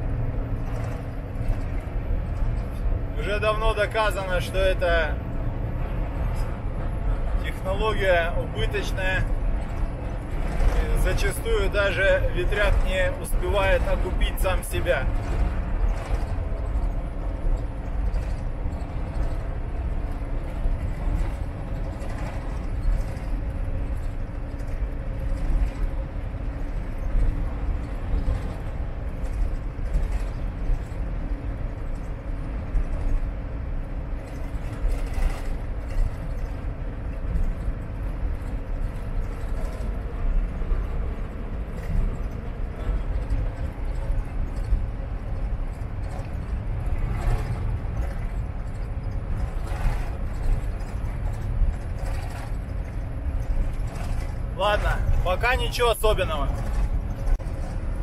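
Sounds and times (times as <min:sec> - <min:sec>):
road rumble: 0:00.0 - 0:58.0
truck engine drone: 0:00.0 - 0:58.0
small knocks and rattles: 0:07.5 - 0:33.4, 0:34.1 - 0:58.0.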